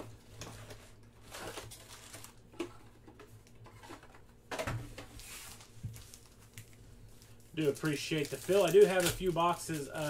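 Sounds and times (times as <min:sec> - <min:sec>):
low steady hum: 0:00.0 - 0:10.0
rustling of card packs: 0:00.5 - 0:04.3, 0:05.0 - 0:10.0.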